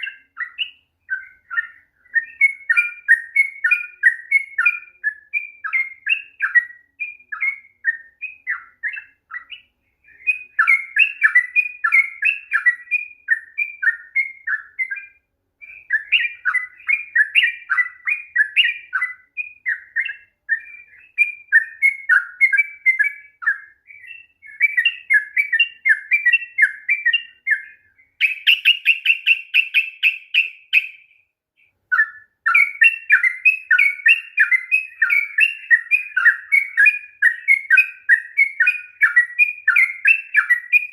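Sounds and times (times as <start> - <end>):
fast even bird trill: 0.0 - 31.3, 31.9 - 40.9
bulbul singing: 0.0 - 40.9.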